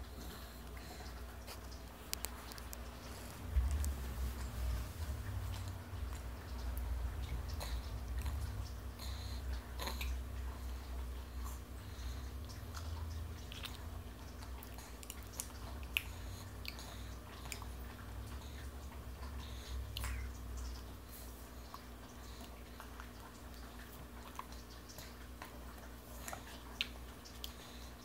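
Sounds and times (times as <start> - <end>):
low steady rumble: 0.0 - 27.9
toddler chewing: 0.0 - 28.0.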